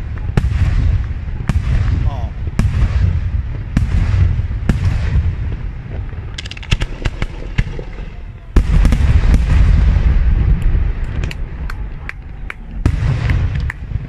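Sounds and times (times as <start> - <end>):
crackling firework pops: 0.0 - 14.0
deep rumbling: 0.0 - 14.0
firework bangs: 0.0 - 14.0.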